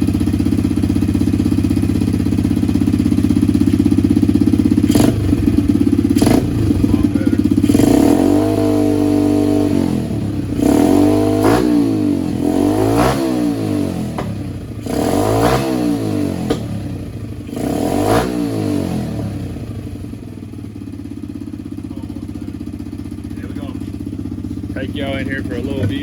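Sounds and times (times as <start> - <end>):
engine idling: 0.0 - 26.0
small motorcycle engine revving: 0.0 - 26.0.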